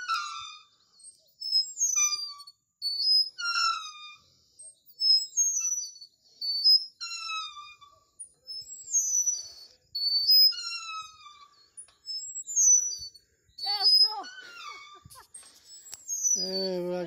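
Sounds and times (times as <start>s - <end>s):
chain swing squeaking: 0.0s - 17.0s.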